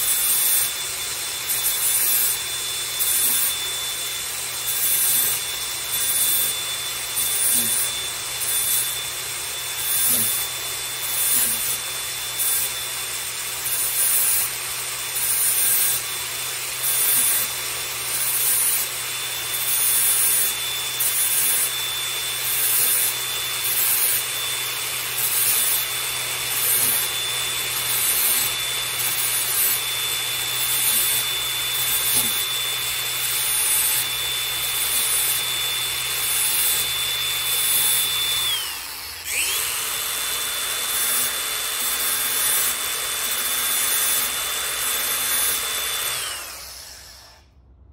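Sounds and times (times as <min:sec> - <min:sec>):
grinder disc rasping on steel: 0:00.0 - 0:47.4
angle grinder whining: 0:00.0 - 0:47.7.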